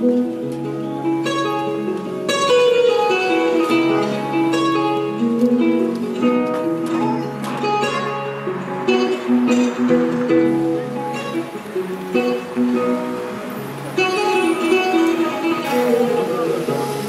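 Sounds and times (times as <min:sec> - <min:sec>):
plucked strings melody: 0:00.0 - 0:17.0.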